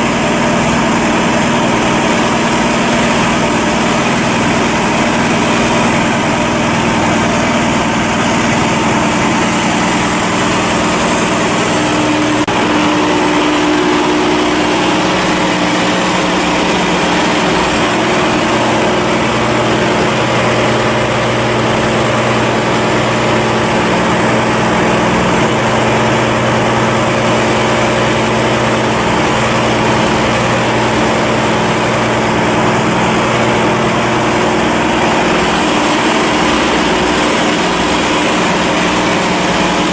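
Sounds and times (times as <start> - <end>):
ship engine droning: 0.0 - 39.9.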